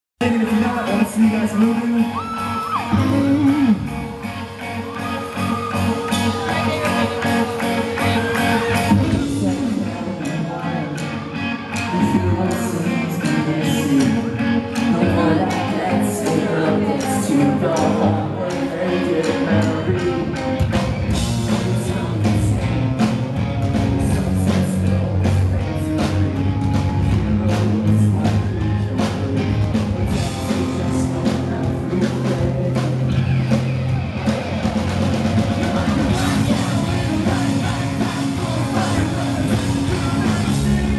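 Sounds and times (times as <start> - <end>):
electric guitars: 0.2 - 40.9
rock band playing live: 0.2 - 40.9
sung lead vocal: 0.2 - 40.9.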